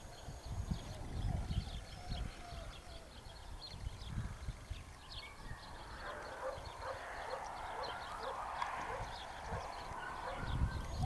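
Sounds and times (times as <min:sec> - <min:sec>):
small birds chirping: 0:00.0 - 0:11.0
wind rumbling on microphone: 0:00.0 - 0:11.0.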